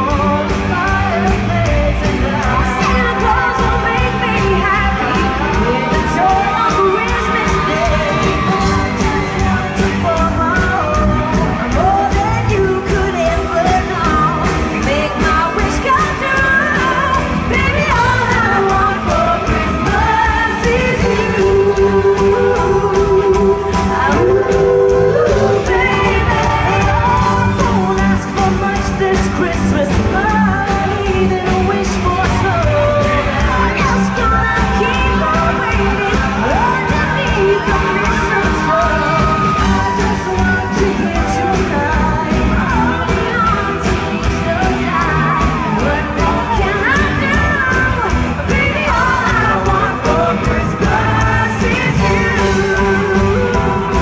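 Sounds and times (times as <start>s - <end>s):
drums: 0.0s - 54.0s
lead vocals singing: 0.0s - 54.0s.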